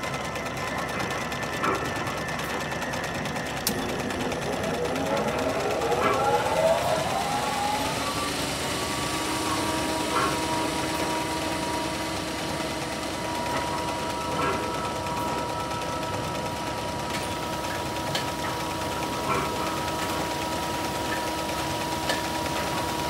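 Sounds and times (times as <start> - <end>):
sewing machine whirring: 0.0 - 23.0
climbing whine: 1.0 - 22.9.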